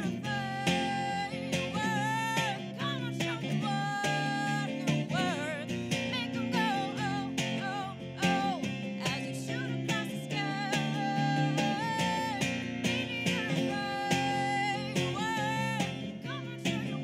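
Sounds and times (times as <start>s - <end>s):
strummed acoustic guitar: 0.0s - 17.0s
woman singing: 0.0s - 17.0s.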